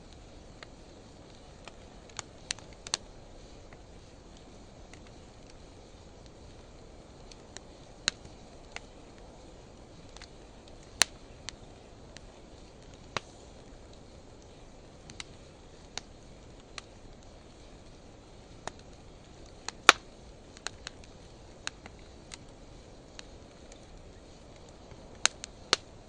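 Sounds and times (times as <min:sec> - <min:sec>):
soft steady fire hiss: 0:00.0 - 0:26.0
wood fire crackling and popping: 0:00.0 - 0:26.0.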